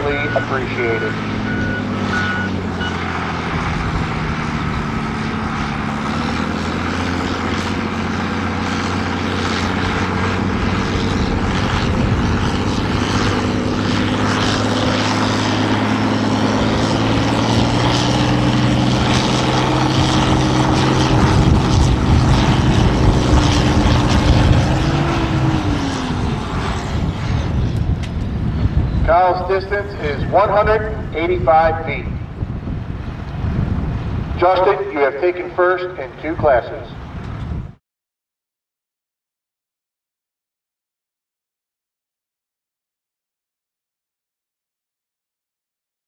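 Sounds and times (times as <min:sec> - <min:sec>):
tractor diesel engine under load: 0:00.0 - 0:37.6.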